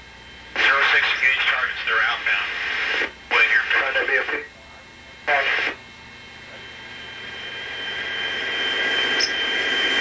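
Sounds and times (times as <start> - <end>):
helicopter turbine whine: 0.1 - 10.0.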